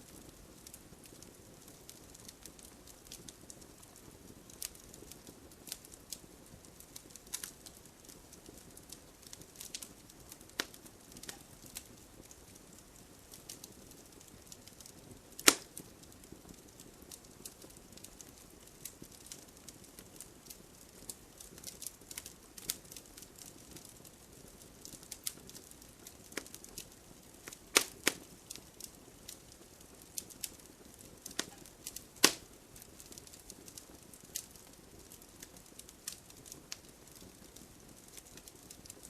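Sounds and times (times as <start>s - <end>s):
fire crackling in fireplace: 0.0s - 39.0s.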